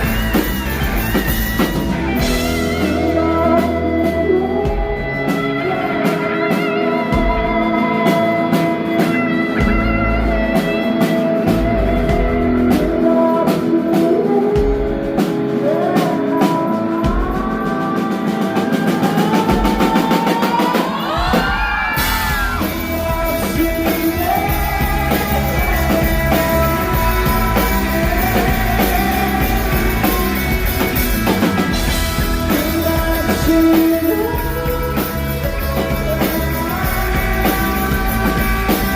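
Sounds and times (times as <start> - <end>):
drums and cymbals: 0.0 - 38.9.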